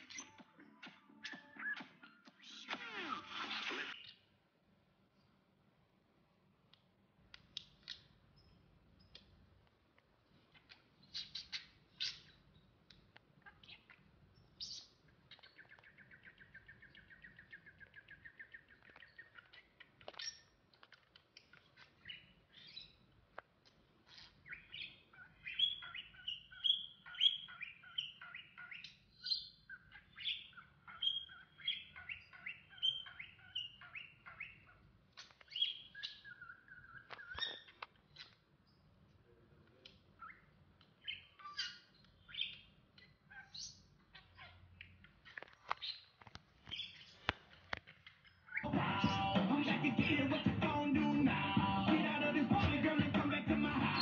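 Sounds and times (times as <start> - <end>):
parrots chirping and warbling: 0.0 - 4.3, 7.5 - 38.9, 39.8 - 54.0.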